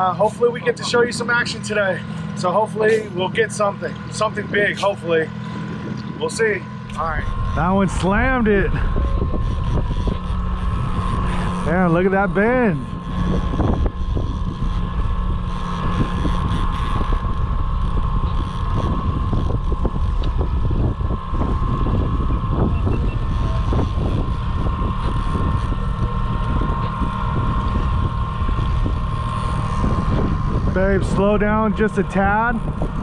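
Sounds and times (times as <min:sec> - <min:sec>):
boat motor whining: 0:00.0 - 0:33.0
wind buffeting microphone: 0:04.1 - 0:33.0.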